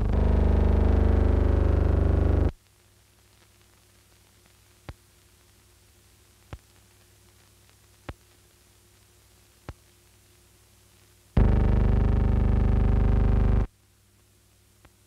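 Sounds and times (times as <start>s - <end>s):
film soundtrack hiss and hum: 0.0s - 15.0s.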